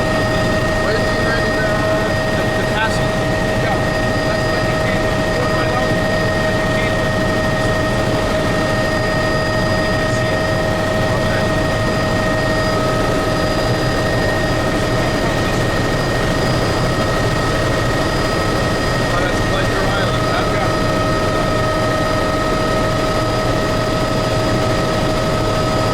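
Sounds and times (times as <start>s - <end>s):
helicopter engine and rotor: 0.0s - 25.9s
high engine whine: 0.0s - 25.9s.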